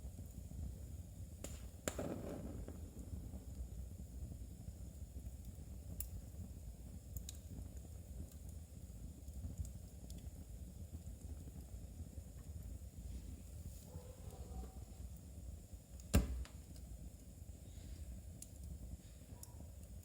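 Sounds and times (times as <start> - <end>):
fire crackles: 0.0 - 20.0
fire low rumble: 0.0 - 20.0.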